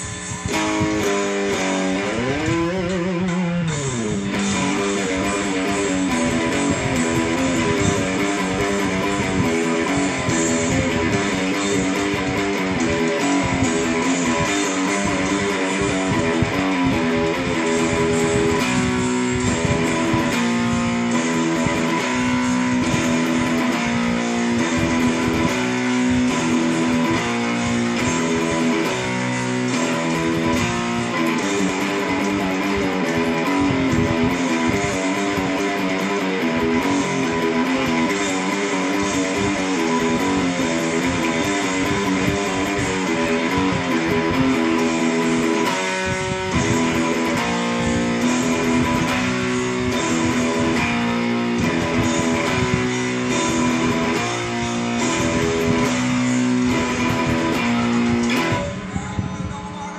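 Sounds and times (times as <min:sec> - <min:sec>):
strummed electric guitar: 0:00.0 - 0:59.9.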